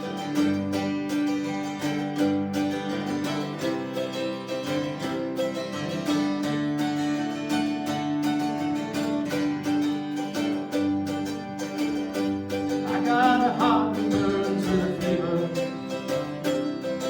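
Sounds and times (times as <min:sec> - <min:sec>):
acoustic guitar picking: 0:00.0 - 0:17.0.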